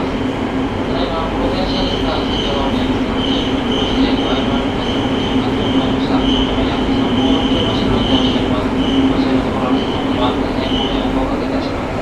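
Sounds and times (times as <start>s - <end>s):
subway train rolling roar: 0.0s - 12.0s.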